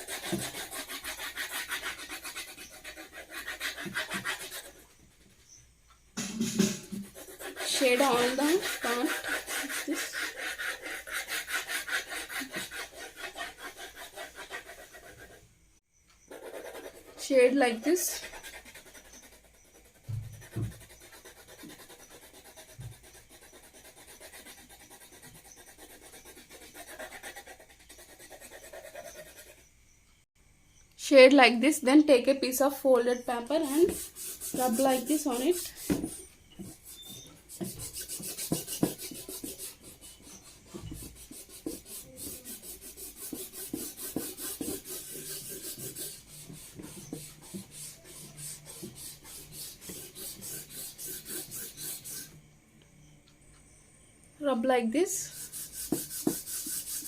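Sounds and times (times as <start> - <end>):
pencil shading on paper: 0.0 - 5.0, 6.8 - 15.4, 16.3 - 29.7, 33.0 - 52.4, 55.1 - 57.0.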